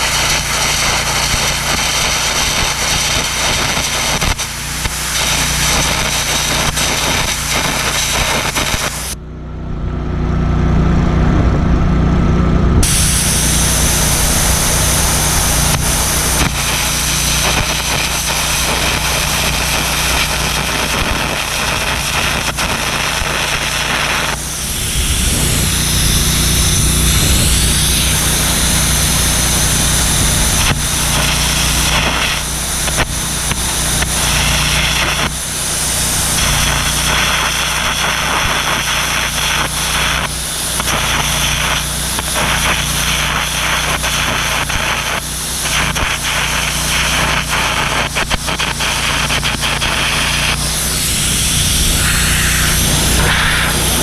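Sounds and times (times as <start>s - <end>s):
crackling hissing arc gouging: 0.0s - 9.2s, 12.8s - 54.0s
steady engine drone: 0.0s - 54.0s.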